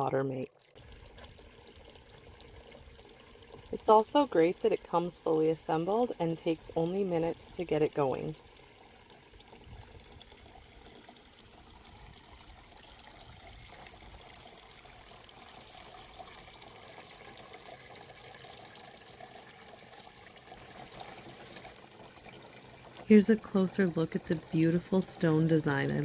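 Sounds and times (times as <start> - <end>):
fountain water trickling: 0.2 - 26.0.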